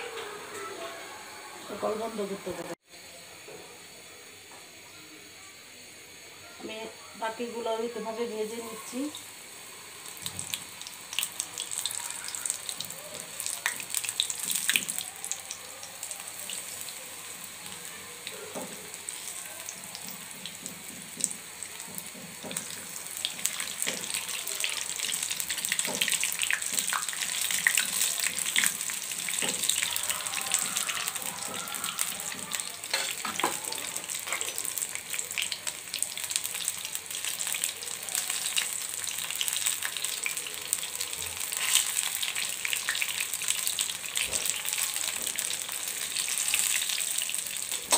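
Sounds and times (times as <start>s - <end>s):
deep-frying sizzle with pops: 0.0s - 47.9s.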